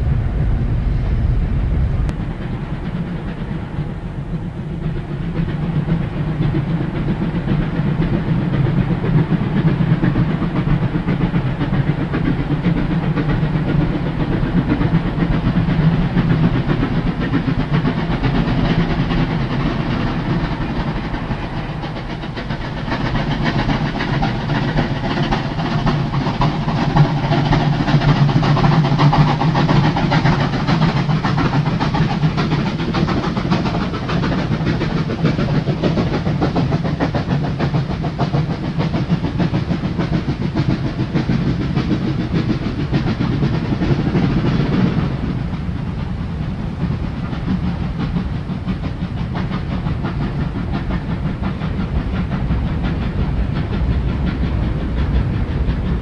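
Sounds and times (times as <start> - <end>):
steam hiss: 0.0 - 56.0
steam locomotive exhaust: 0.0 - 56.0.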